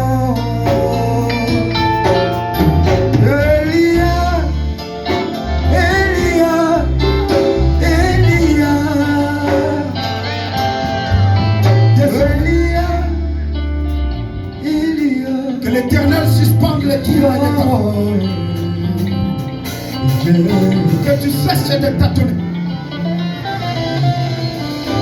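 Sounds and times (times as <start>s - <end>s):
person singing gospel song: 0.0s - 19.4s, 20.0s - 22.5s
guitar and bass: 0.0s - 25.0s.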